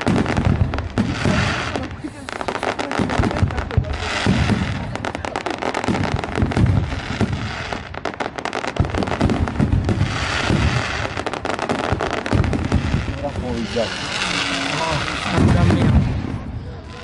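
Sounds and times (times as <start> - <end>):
low booms of bursting shells: 0.0 - 16.9
fireworks crackling: 0.0 - 17.0.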